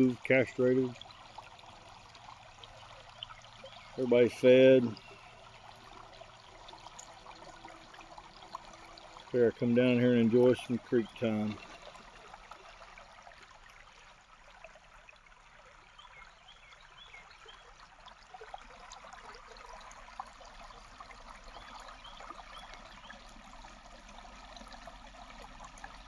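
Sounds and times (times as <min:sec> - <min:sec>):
creek trickling: 0:00.0 - 0:26.0.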